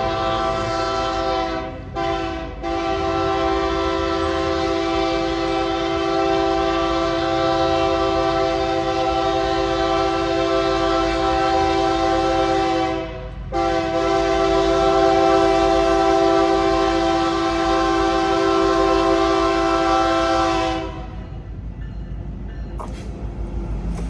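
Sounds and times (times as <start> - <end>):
locomotive air horn blowing: 0.0 - 21.2
low rumble of train: 0.0 - 24.0.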